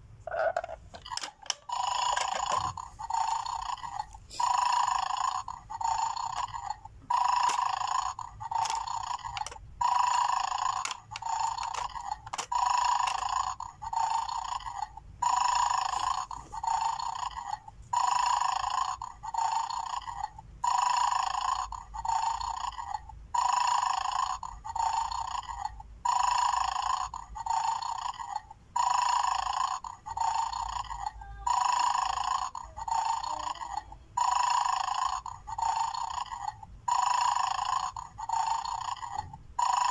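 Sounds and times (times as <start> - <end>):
toy snoring from speaker: 0.0 - 39.9.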